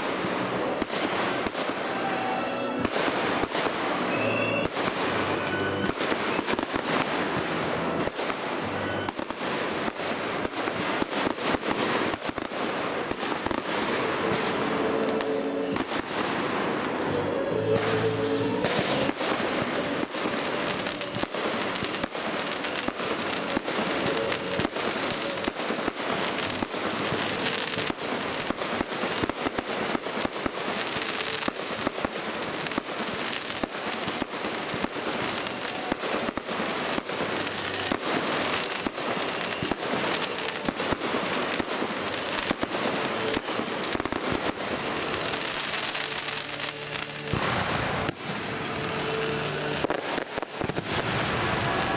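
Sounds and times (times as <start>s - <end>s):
fireworks crackling and banging: 0.0s - 51.9s.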